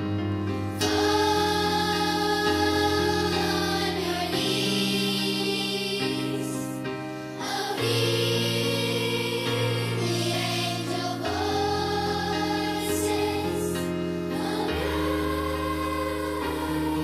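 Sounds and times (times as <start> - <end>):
children's choir singing: 0.8 - 17.0.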